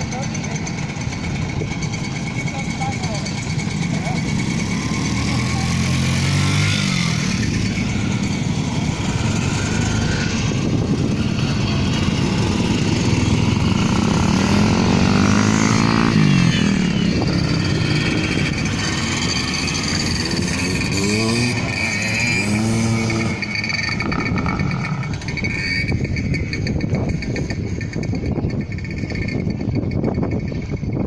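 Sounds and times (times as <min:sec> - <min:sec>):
moped engines running: 0:00.0 - 0:31.0.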